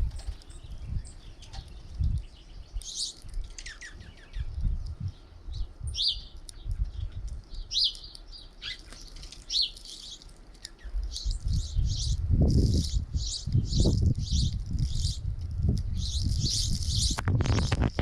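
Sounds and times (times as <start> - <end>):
low gusty rumble: 0.0 - 7.7, 10.9 - 18.0
songbirds chirping: 0.0 - 18.0.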